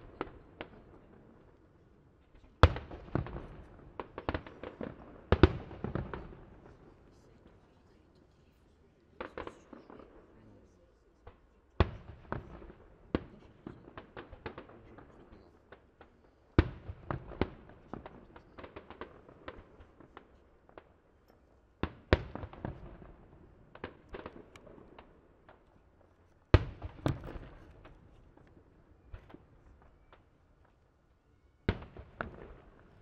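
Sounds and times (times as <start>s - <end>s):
fireworks pops and crackles: 0.0s - 31.0s, 31.6s - 33.0s.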